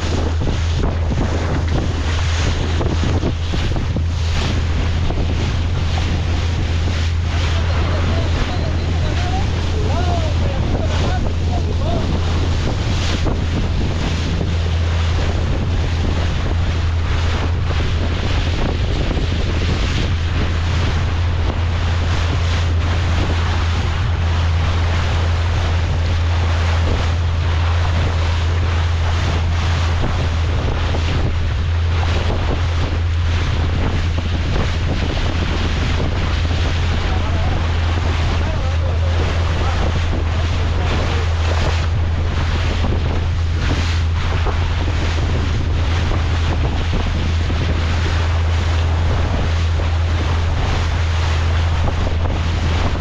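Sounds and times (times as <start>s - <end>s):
boat engine droning: 0.0s - 53.0s
water rushing past: 0.0s - 53.0s
wind buffeting microphone: 0.0s - 53.0s.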